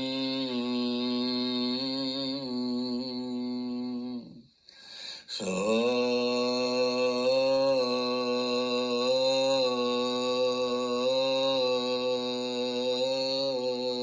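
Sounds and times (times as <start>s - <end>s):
man chanting a long tone: 0.0s - 4.5s, 5.3s - 14.0s.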